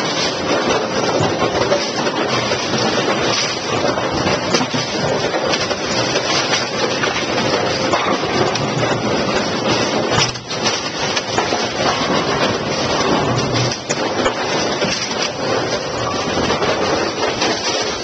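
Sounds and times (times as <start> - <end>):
pinsetter machines rattling: 0.0 - 18.0.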